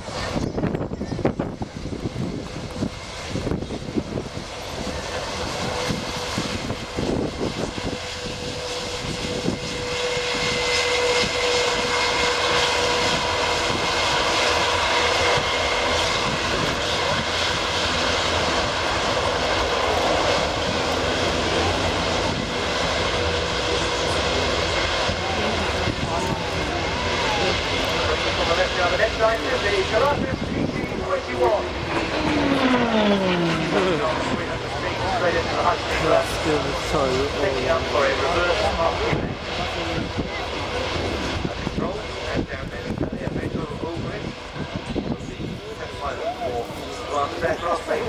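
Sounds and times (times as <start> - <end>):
turboprop engine whine: 0.0 - 48.0.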